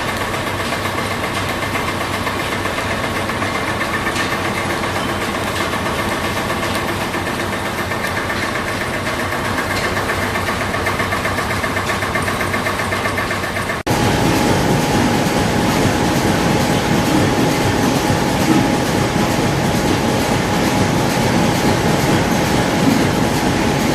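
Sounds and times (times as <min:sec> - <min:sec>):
low rumbling machine: 0:00.0 - 0:23.9
stationary engine running: 0:01.4 - 0:23.9
steady machine whine: 0:04.7 - 0:23.9.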